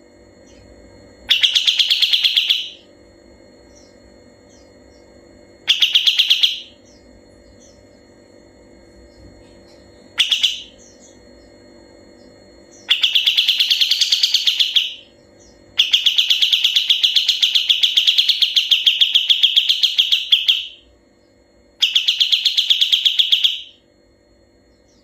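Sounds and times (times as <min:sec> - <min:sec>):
songbird rattling trill: 0:00.4 - 0:02.9, 0:03.6 - 0:08.2, 0:08.8 - 0:23.8.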